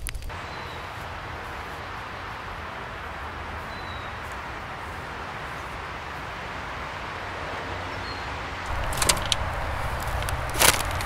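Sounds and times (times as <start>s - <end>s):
steady rushing noise: 0.2s - 11.0s.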